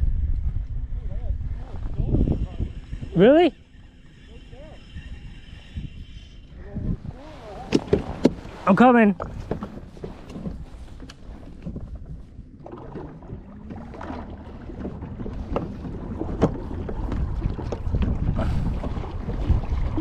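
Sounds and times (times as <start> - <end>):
wind buffeting microphone: 0.0 - 20.0
water lapping against hull: 0.5 - 20.0.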